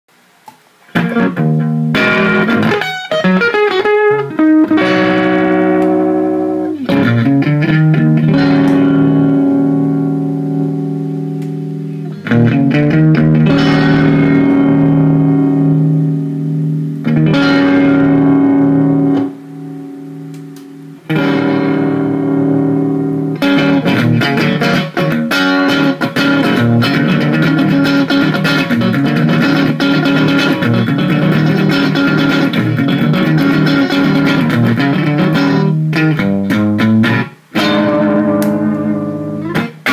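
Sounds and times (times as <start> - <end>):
electric guitar chords ringing: 0.9 - 39.9
electric guitar picked notes: 0.9 - 39.9.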